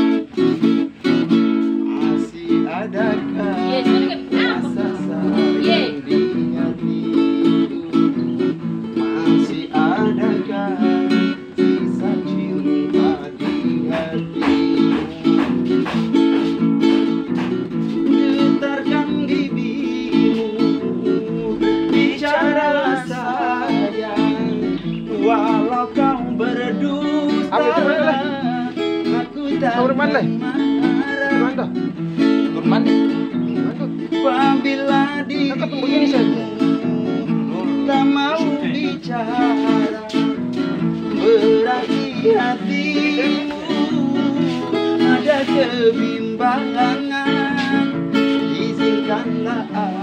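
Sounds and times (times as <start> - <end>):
acoustic guitar strumming: 0.0 - 50.0
person singing: 0.0 - 50.0.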